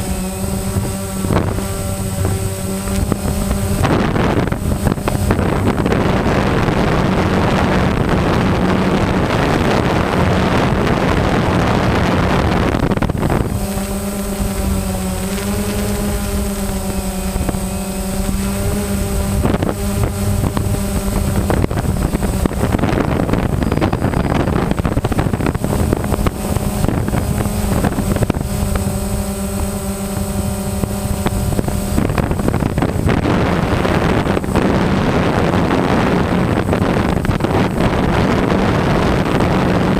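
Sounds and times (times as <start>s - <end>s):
drone propellers buzzing: 0.0s - 39.9s
wind on microphone: 0.0s - 39.9s.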